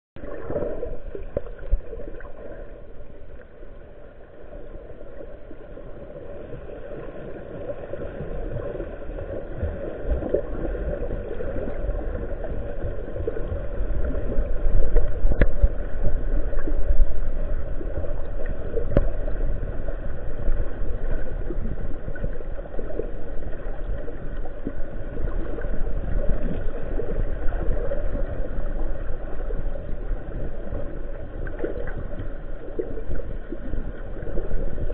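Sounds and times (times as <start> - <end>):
underwater water rushing: 0.2 - 34.9.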